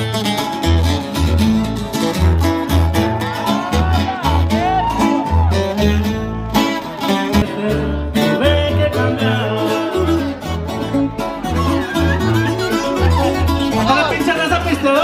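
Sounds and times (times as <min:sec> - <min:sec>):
plucked guitar: 0:00.0 - 0:15.0.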